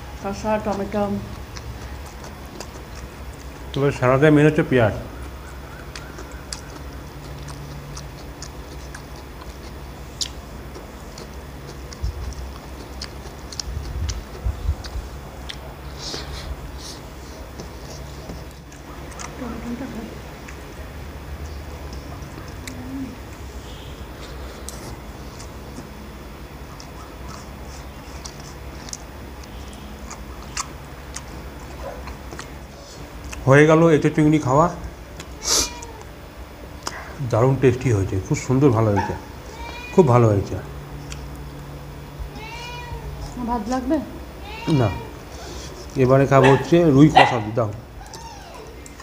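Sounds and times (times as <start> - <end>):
low steady hum: 0.0 - 49.0
chewing and mouth clicks: 0.6 - 4.0, 5.0 - 33.5, 34.8 - 37.4, 40.8 - 41.8, 45.0 - 49.0.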